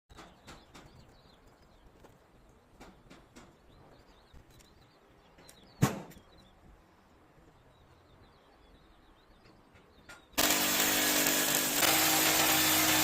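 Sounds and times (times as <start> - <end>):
birds chirping: 0.1 - 11.8.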